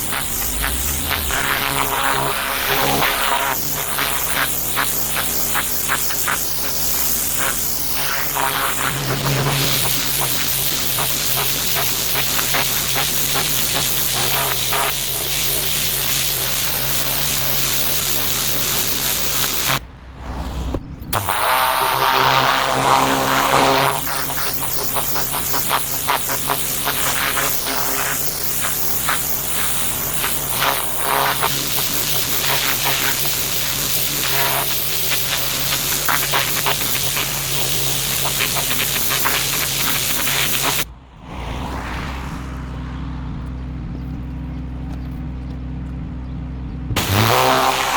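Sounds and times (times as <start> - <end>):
pressure washer spraying water: 0.0 - 19.8, 21.1 - 40.9, 47.0 - 47.9
motor hum: 0.0 - 41.0, 41.8 - 47.9.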